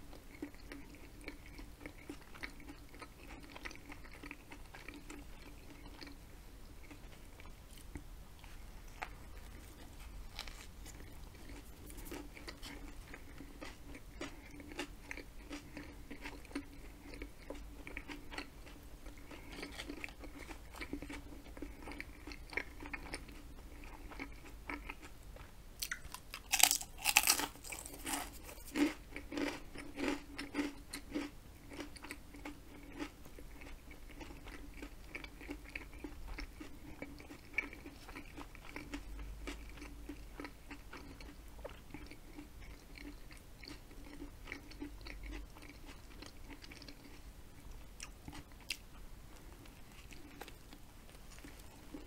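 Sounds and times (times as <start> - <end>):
crunchy chewing: 0.1 - 52.0
person chewing sandwich: 0.1 - 52.0.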